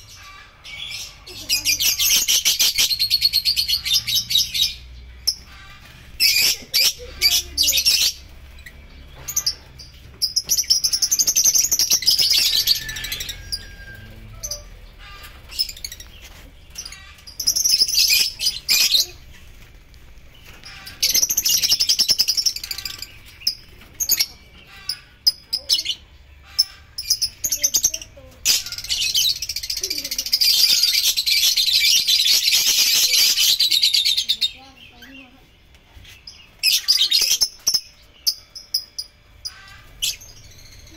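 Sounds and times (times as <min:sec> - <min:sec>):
lovebirds chattering: 0:00.0 - 0:40.9.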